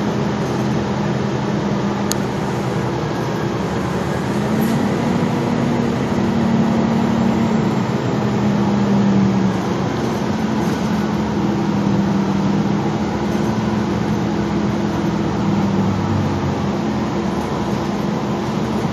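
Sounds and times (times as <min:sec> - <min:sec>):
bus engine humming: 0:00.0 - 0:18.9.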